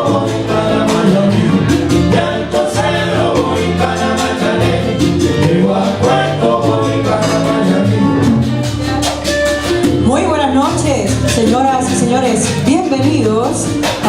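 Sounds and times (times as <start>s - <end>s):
latin music with singing: 0.0s - 14.0s.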